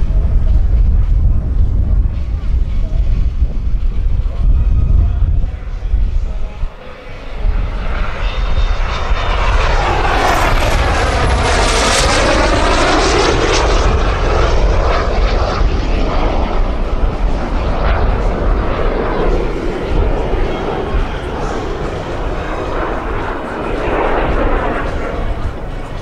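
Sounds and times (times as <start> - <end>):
high turbine whine: 0.0 - 26.0
model jets flying past: 0.0 - 26.0.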